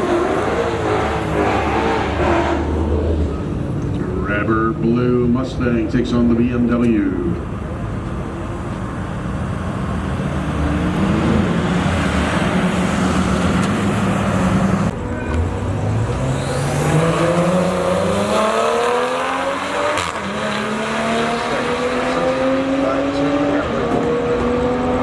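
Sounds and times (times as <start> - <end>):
engines accelerating through gears: 0.0 - 4.4, 7.3 - 25.0
drag racing car engines: 0.0 - 25.0.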